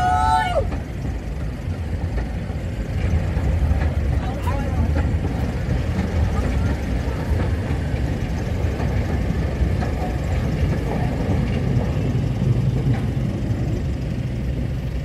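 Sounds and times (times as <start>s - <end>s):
train rumbling over rails: 0.0s - 15.0s.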